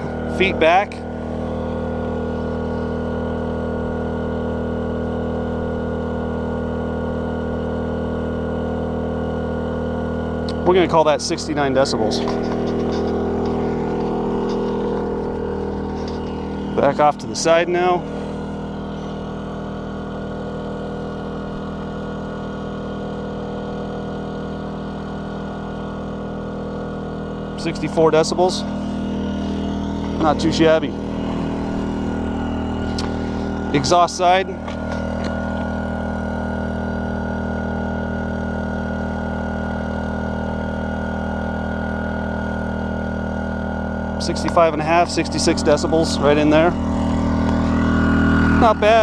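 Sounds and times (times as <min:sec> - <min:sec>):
generator engine humming: 0:00.0 - 0:49.0.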